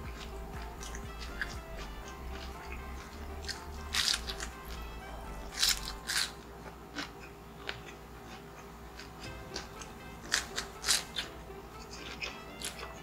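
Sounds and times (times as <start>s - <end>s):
crunching bites of crispy food: 0.0s - 4.9s, 5.5s - 13.0s
soft background music: 0.0s - 13.0s.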